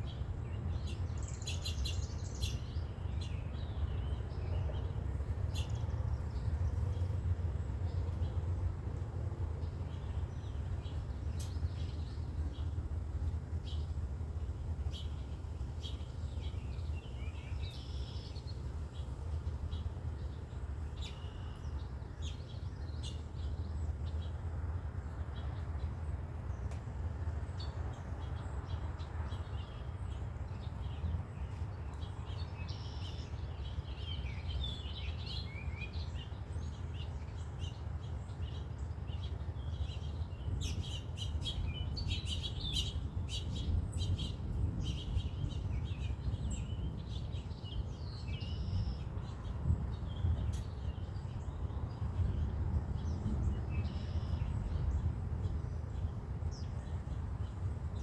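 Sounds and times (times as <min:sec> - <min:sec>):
birds chirping: 0:00.0 - 0:08.8, 0:09.5 - 0:58.0
steady low rumble: 0:00.0 - 0:58.0.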